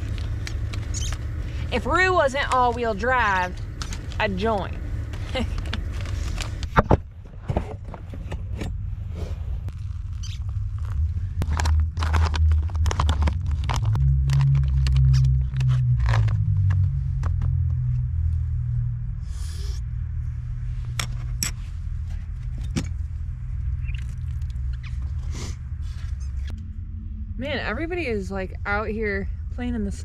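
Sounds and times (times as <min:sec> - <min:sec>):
car engine rumbling and revving: 0:00.0 - 0:30.0.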